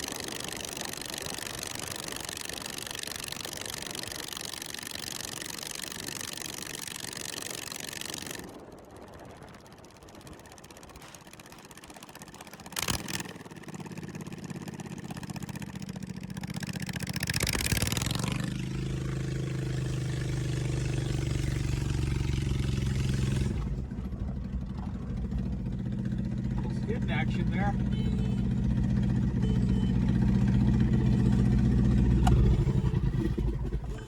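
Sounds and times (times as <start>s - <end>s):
lawn mower engine revving: 0.0s - 8.6s, 10.3s - 34.0s.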